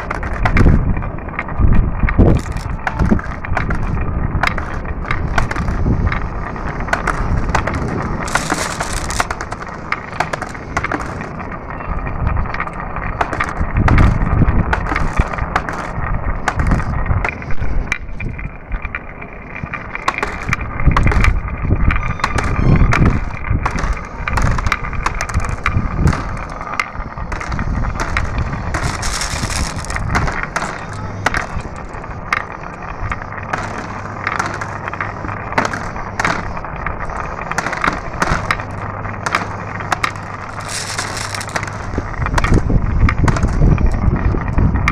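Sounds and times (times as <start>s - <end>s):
marbles clicking: 0.0s - 44.9s
marbles rolling on track: 0.0s - 44.9s.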